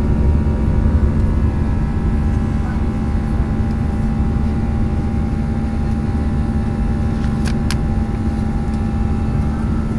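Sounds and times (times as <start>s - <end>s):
airliner cabin engine noise: 0.0s - 9.9s.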